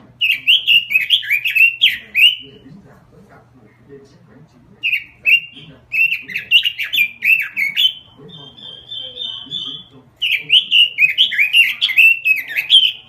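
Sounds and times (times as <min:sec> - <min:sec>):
faint low hum: 0:00.0 - 0:13.0
bird singing whistled notes: 0:00.2 - 0:02.5, 0:04.8 - 0:13.0.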